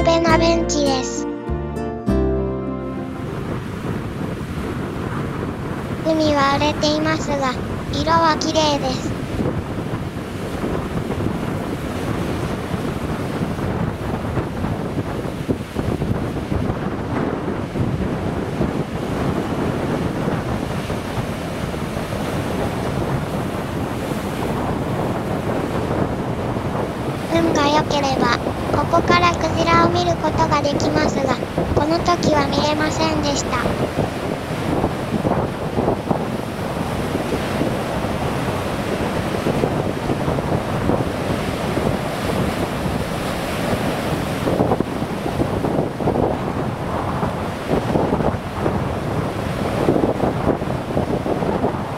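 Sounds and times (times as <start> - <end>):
sea surf washing against shore: 2.7 - 51.9
wind blowing on microphone: 3.0 - 51.9.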